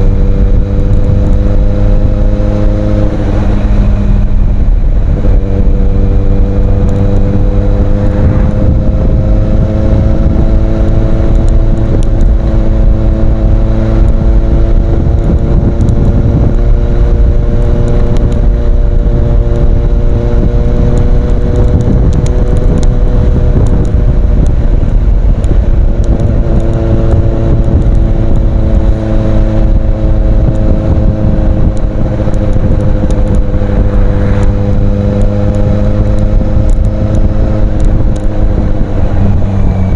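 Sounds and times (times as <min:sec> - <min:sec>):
motorcycle engine cruising: 0:00.0 - 0:39.9
wind rumble on microphone: 0:00.0 - 0:39.9.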